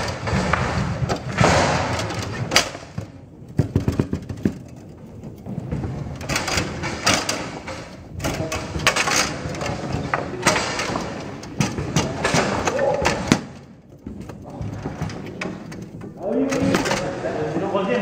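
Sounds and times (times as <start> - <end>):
foosball ball clacking: 0.0 - 17.2
foosball rods rattling: 0.0 - 17.6.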